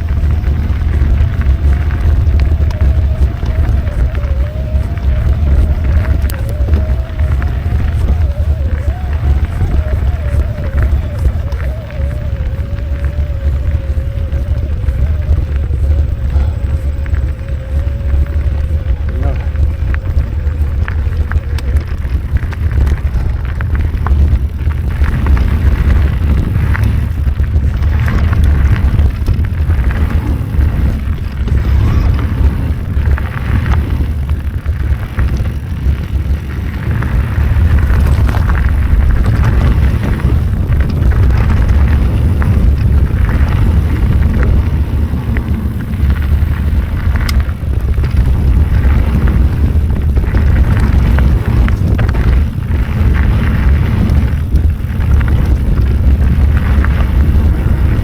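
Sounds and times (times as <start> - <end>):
bicycle rattles and clicks: 0.0 - 58.0
wind buffeting microphone: 0.0 - 58.0.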